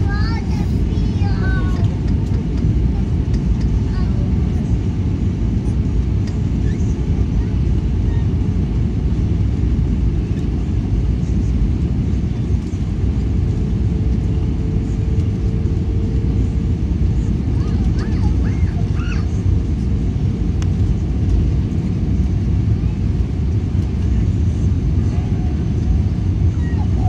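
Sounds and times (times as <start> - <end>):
aircraft cabin rumble: 0.0 - 27.0.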